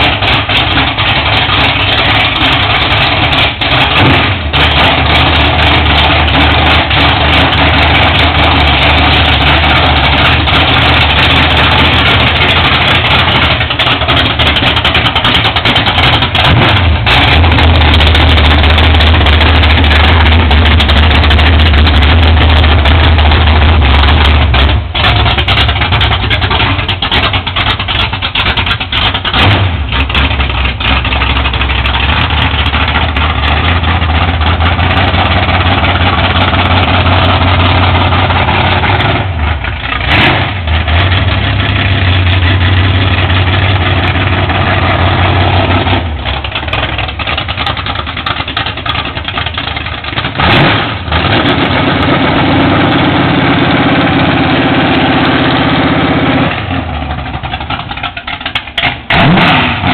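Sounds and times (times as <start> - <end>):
loud car engine idling: 0.0 - 59.9.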